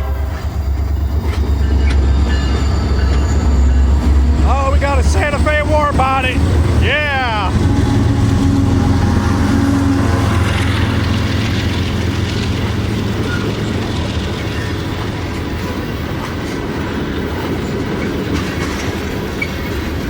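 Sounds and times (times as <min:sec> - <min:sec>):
diesel locomotive rumble: 0:00.0 - 0:20.0
freight cars rolling on rails: 0:00.0 - 0:20.0.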